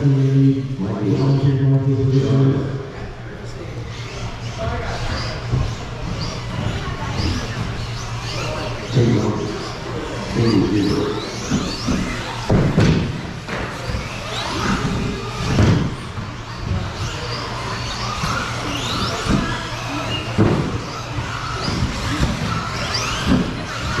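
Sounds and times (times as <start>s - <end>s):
rc truck motors whining: 0.1s - 24.0s.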